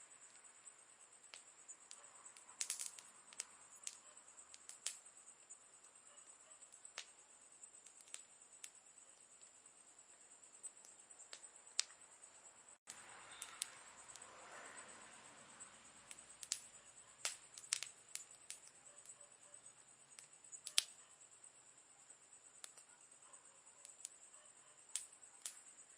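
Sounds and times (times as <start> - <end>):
campfire crackling: 0.0 - 25.9
faint high-pitched hiss: 0.0 - 25.9.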